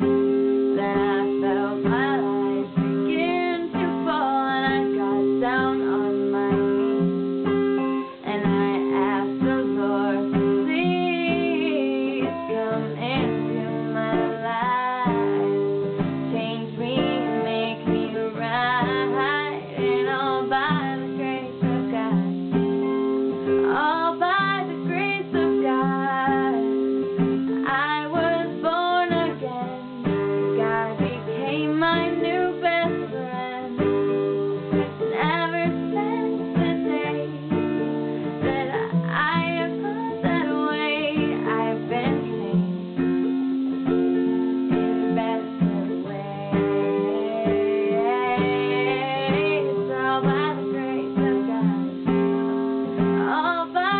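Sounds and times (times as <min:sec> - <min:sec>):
woman singing: 0:00.0 - 0:43.2, 0:43.8 - 0:53.9
acoustic guitar strumming: 0:00.0 - 0:53.9.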